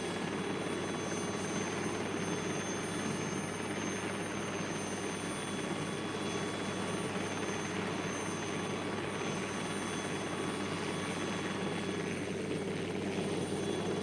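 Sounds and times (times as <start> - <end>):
jet engine roaring with whine: 0.0 - 14.0.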